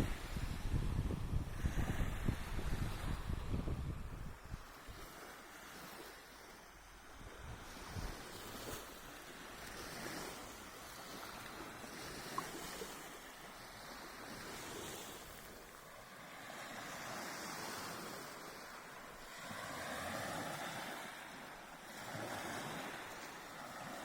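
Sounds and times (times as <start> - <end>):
small waves washing onto beach: 0.0 - 24.0.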